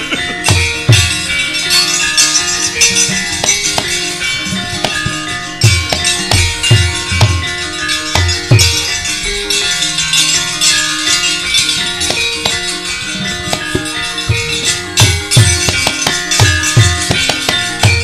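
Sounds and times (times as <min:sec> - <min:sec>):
ringing metallophone notes: 0:00.0 - 0:18.0.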